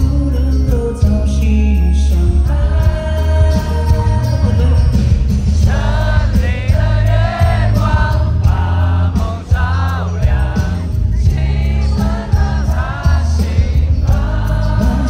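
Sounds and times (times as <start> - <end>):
person singing: 0.0 - 15.0
pop song with heavy bass: 0.0 - 15.0.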